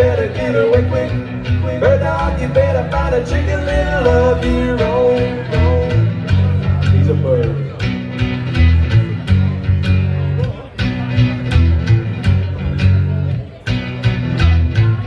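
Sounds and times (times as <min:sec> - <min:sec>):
bass line: 0:00.0 - 0:15.0
rockabilly band playing: 0:00.0 - 0:15.0.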